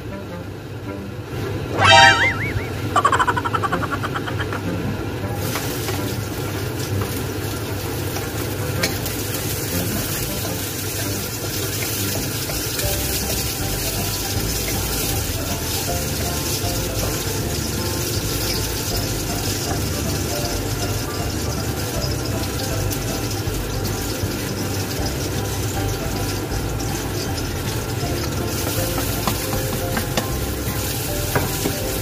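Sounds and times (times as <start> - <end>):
garlic sizzling in hot oil: 1.8 - 32.0
wooden spatula stirring: 5.5 - 32.0.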